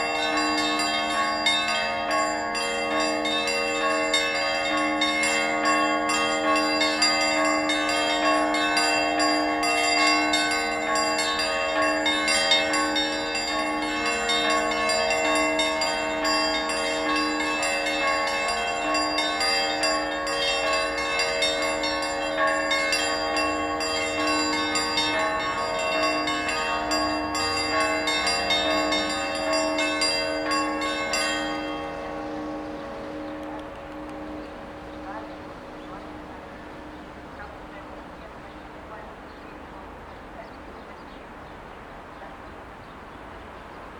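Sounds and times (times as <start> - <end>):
church bells pealing: 0.0 - 41.0.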